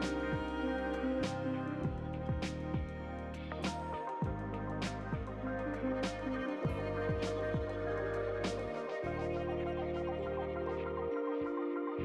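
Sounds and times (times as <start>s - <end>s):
soft beat: 0.0s - 11.0s
gentle instrumental music: 0.0s - 12.0s.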